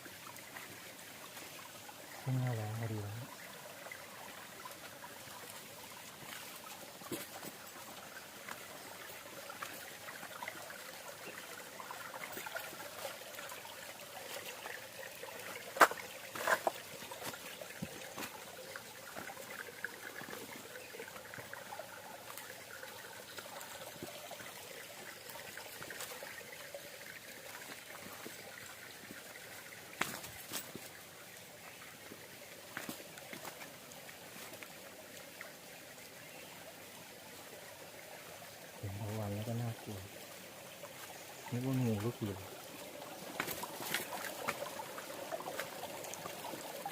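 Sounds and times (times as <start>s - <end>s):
water trickling over rock: 0.0s - 46.9s.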